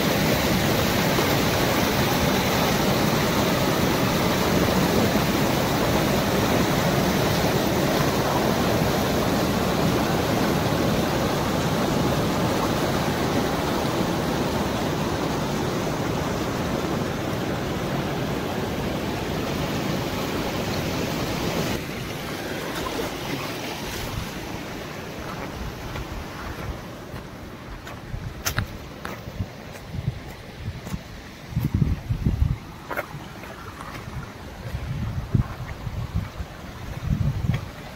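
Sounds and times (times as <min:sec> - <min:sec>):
stream rushing over rocks: 0:00.0 - 0:37.9.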